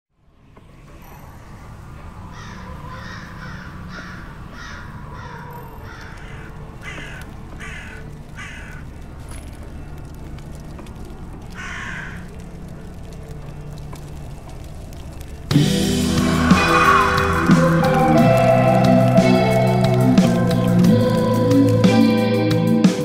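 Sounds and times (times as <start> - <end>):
crow cawing: 2.1 - 22.1.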